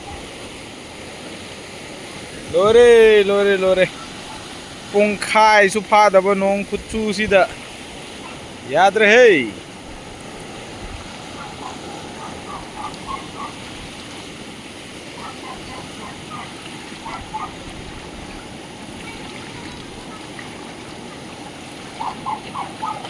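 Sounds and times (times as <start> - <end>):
frogs croaking: 0.0 - 23.0
running water: 0.0 - 23.0.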